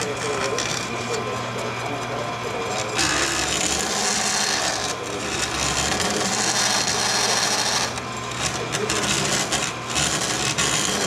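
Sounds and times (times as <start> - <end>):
bandsaw motor hum: 0.0 - 11.0.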